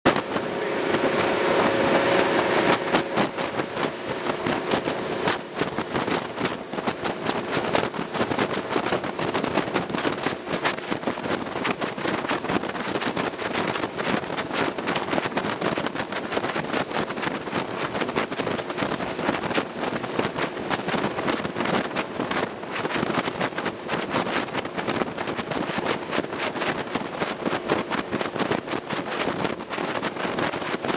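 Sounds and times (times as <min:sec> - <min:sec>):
water splashing along hull: 0:00.1 - 0:30.9
wind buffeting microphone: 0:00.1 - 0:30.9.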